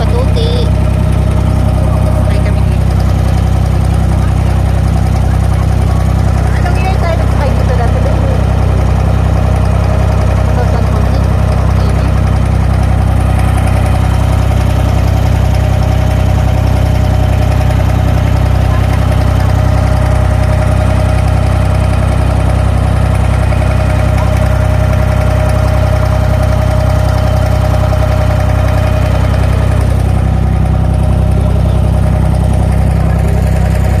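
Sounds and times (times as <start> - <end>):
boat diesel engine drone: 0.0 - 34.0.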